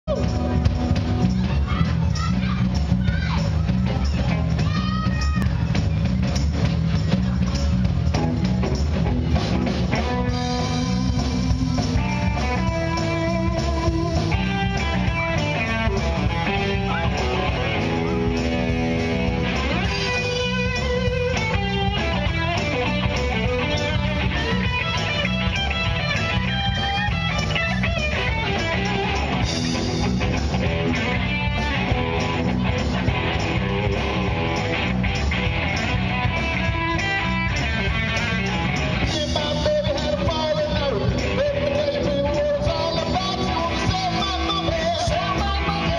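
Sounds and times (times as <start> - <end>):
bass guitar: 0.0 - 45.9
drum kit beat: 0.0 - 45.9
electric guitar lines: 5.4 - 45.9.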